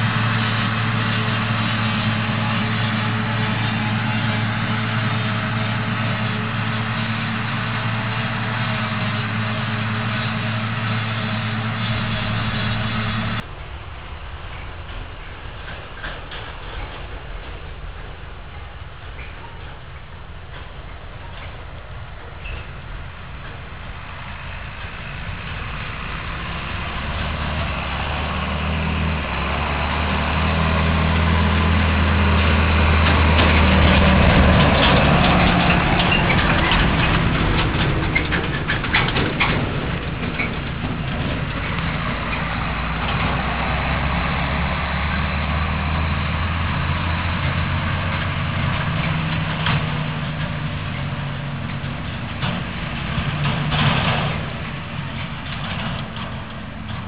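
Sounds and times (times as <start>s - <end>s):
tractor diesel engine under load: 0.0s - 57.0s
trailers rattling and clattering: 0.0s - 57.0s.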